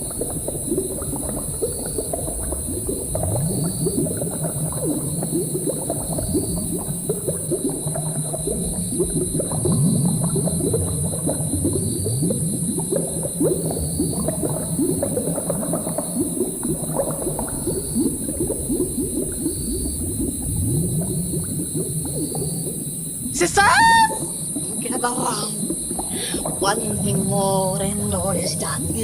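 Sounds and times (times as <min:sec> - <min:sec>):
thick liquid bubbling: 0:00.0 - 0:29.0.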